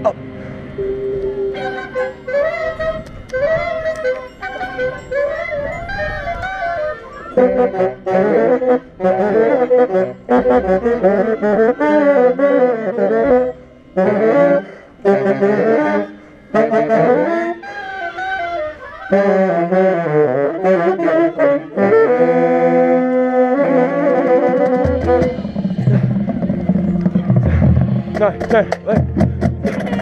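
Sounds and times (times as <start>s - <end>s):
tenor saxophone playing: 0.0s - 28.2s
deeper instrument parts: 0.0s - 30.0s.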